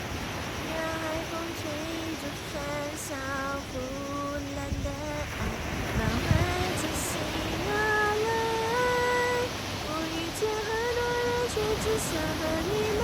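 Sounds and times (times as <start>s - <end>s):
wind rumble on microphone: 0.0s - 13.0s
person singing unaccompanied: 0.6s - 13.0s.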